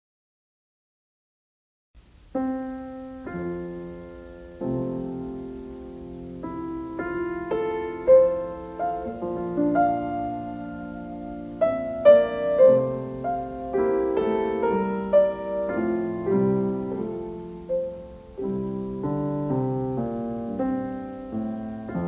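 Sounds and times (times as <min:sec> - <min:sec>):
gentle piano music: 0:02.3 - 0:22.0.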